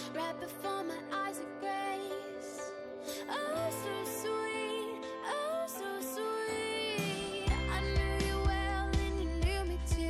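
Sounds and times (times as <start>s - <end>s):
gentle background music: 0.0s - 10.0s.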